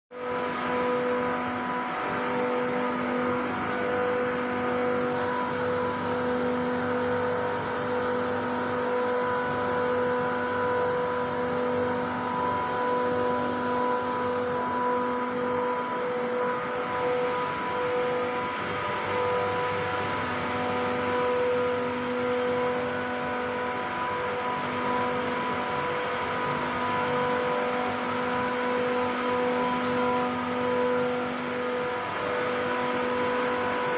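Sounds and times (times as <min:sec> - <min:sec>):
compressor drone with whine: 0:00.1 - 0:33.9.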